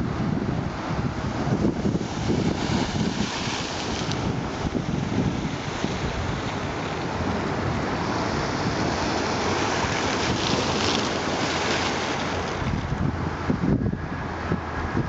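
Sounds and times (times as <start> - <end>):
waves splashing against shore: 0.0 - 13.6
wind noise on microphone: 0.0 - 15.0.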